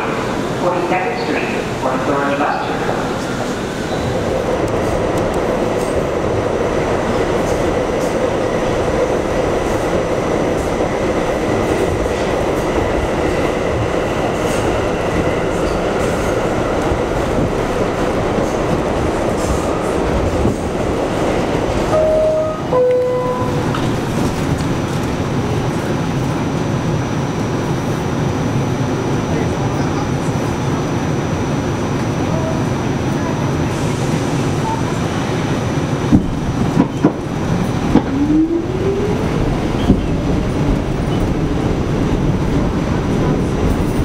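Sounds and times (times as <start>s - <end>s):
subway wheels on rails: 0.0s - 44.0s.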